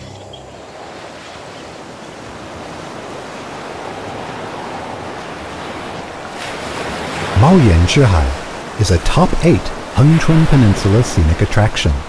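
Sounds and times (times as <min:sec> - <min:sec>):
surf washing on rocky shore: 0:00.0 - 0:12.0.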